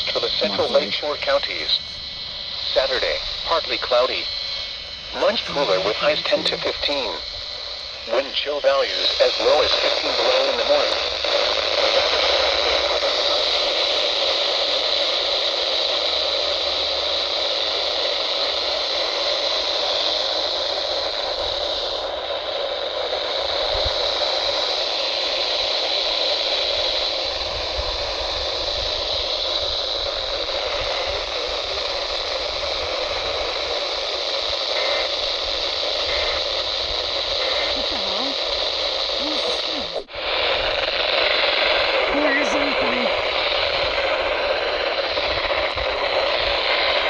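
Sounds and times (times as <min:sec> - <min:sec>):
faint high whine: 0:00.0 - 0:47.0
radio static hiss: 0:00.0 - 0:47.0.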